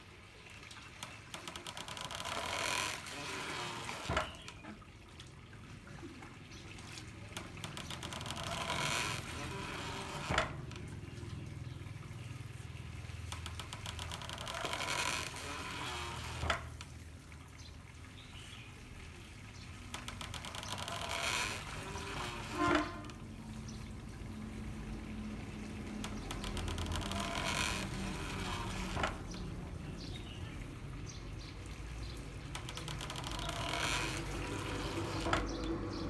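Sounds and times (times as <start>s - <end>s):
water pouring and splashing: 0.0s - 36.0s.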